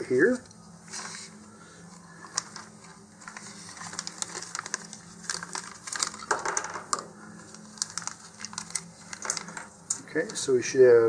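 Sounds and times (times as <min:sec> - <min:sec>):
plastic bag crinkling: 0:00.9 - 0:10.5.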